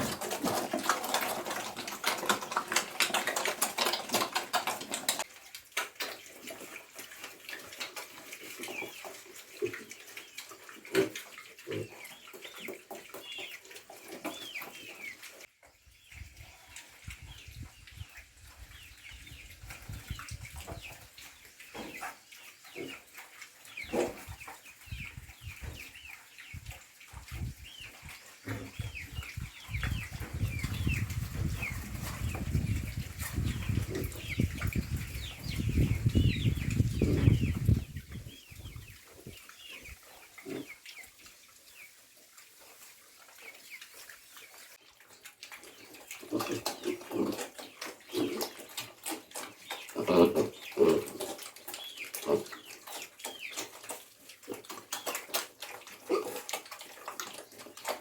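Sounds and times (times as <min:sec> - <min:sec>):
chickens chirping and clucking: 0:00.0 - 0:58.0.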